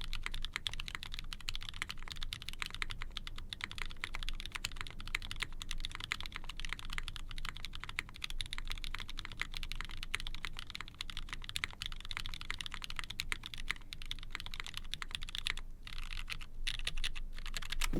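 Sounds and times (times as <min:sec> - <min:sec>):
mechanical keyboard typing: 0:00.0 - 0:17.9.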